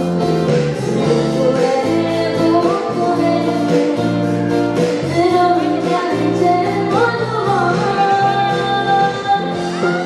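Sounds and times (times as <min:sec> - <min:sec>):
live band with keyboard: 0:00.0 - 0:10.0.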